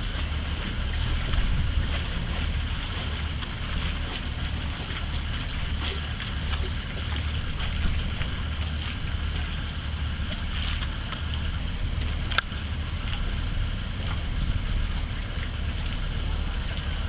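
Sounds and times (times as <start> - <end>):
ferry engines rumbling: 0.0 - 17.0
wind on microphone: 0.0 - 17.0.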